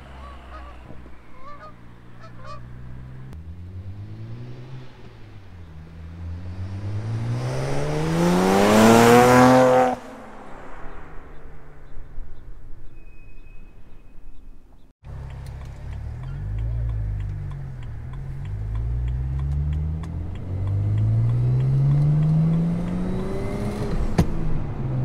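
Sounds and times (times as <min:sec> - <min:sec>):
car engine accelerating: 0:00.0 - 0:12.6, 0:15.0 - 0:25.0.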